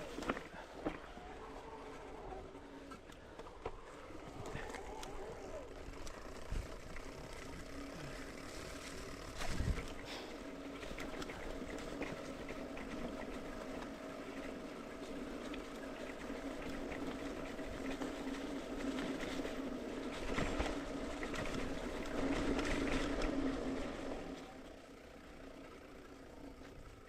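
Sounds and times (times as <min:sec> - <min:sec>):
bike rattling: 0:00.0 - 0:27.0
bike tyres rushing on dirt: 0:00.0 - 0:27.0.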